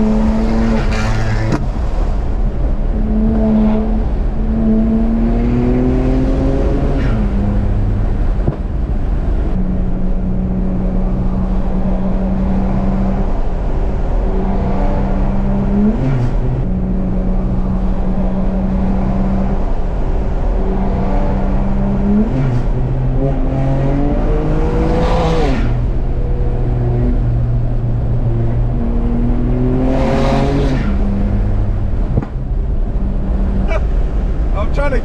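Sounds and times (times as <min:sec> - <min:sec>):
car engine droning and accelerating: 0:00.0 - 0:35.0.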